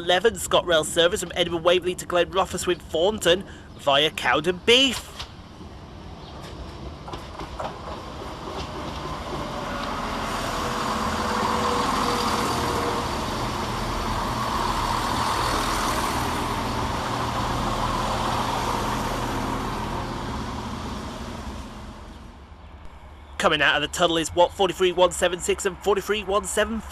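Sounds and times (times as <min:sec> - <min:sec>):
diesel train rumbling on rails: 0:00.0 - 0:26.9.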